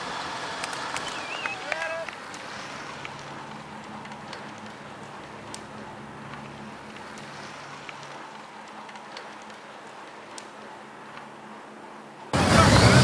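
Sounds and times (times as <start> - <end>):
low engine hum: 0.0 - 13.0
road and wind noise: 0.0 - 13.0
faint clicks: 0.6 - 11.3.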